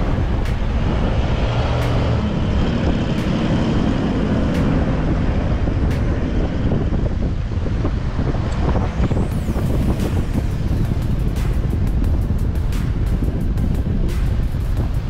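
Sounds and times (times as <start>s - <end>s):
car engine running: 0.0s - 15.0s
wind buffeting microphone: 0.0s - 15.0s.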